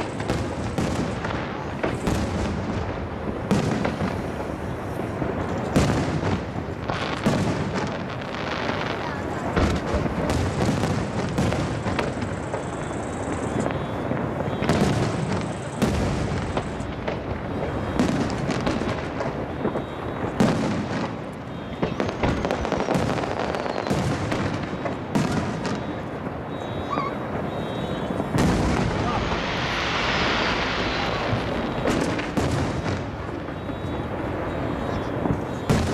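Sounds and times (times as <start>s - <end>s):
fireworks bursting: 0.0s - 35.9s.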